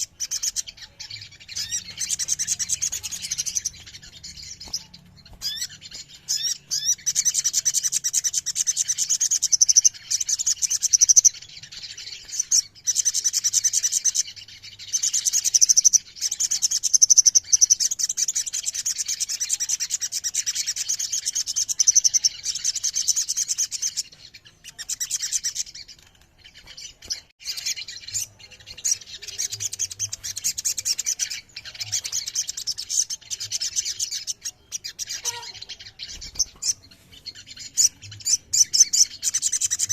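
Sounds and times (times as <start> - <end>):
sunbird singing rolling song: 0.0 - 39.9.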